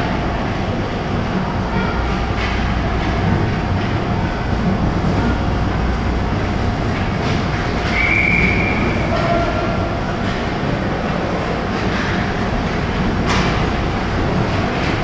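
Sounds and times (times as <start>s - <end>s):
ice arena rumble: 0.0s - 15.0s.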